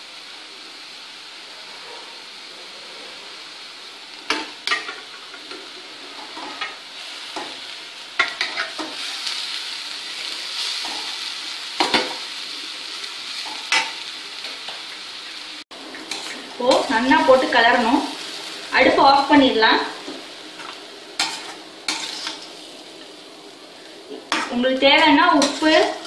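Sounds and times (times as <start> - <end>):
paste sizzling in a pan: 0.0 - 26.0.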